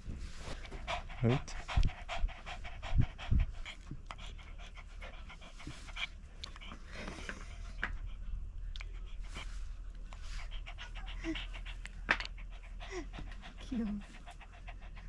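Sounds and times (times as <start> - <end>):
steady low hum: 0.0 - 15.0
dog panting: 0.1 - 15.0.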